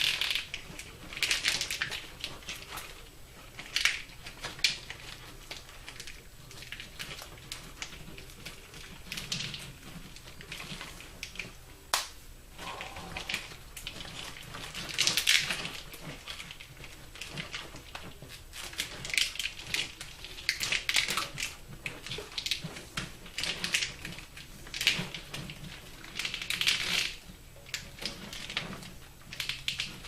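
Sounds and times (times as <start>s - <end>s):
plastic loom rustling and clicking: 0.0s - 11.7s, 12.6s - 30.0s.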